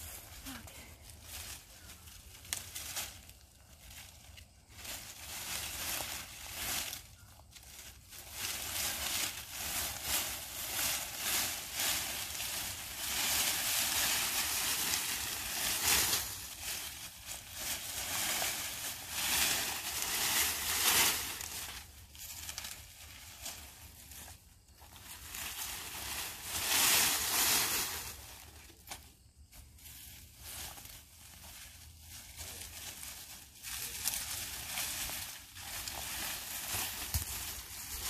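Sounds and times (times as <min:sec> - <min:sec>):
dry leaves rustling and crunching: 0:00.0 - 0:38.0.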